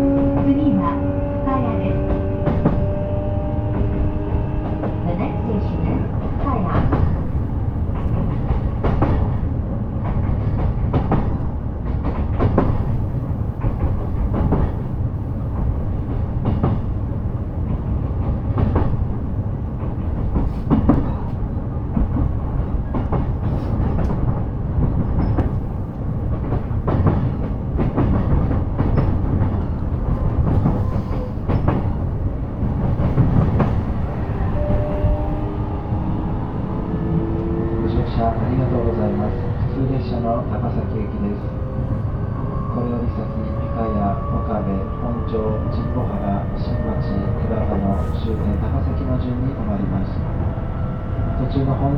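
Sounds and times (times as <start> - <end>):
train wheel and track rumble: 0.0 - 51.9.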